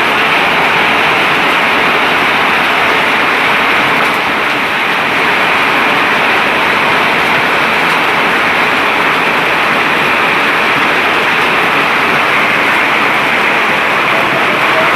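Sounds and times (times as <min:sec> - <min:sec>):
hail and heavy rain falling: 0:00.0 - 0:14.9.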